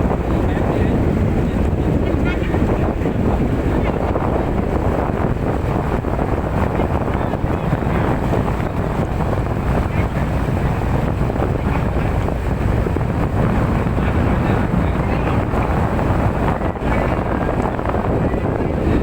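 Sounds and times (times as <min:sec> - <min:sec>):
boat motor and water rushing: 0:00.0 - 0:19.0
wind buffeting microphone: 0:00.0 - 0:19.0.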